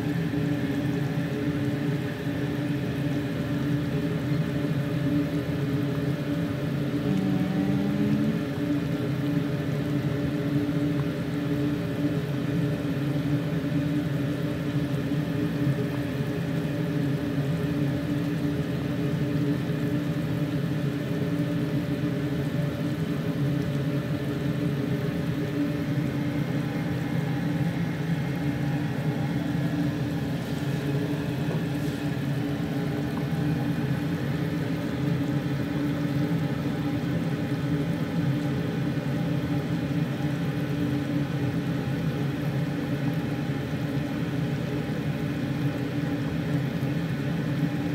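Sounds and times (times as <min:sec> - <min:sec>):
pot boiling with low hum: 0:00.0 - 0:47.9.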